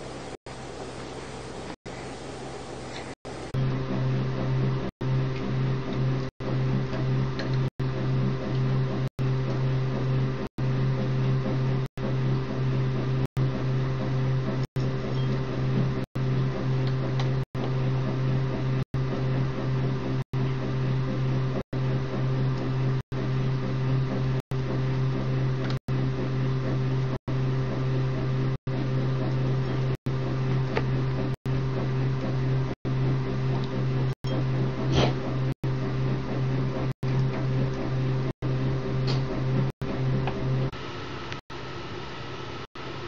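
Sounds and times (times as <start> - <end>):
low electrical hum: 0.0 - 43.0.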